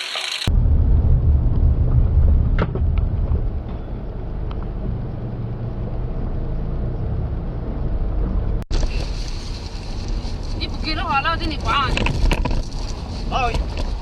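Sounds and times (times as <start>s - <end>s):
car engine and road noise: 0.4s - 14.0s.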